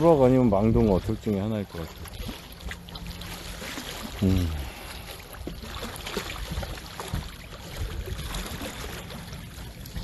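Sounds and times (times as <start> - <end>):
sea water lapping: 0.0 - 10.0.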